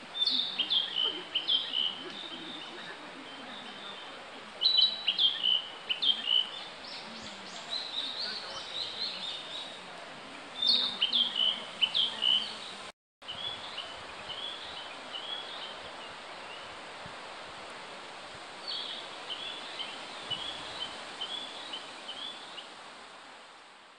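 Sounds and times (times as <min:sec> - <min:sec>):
forest background hiss: 0:00.0 - 0:23.9.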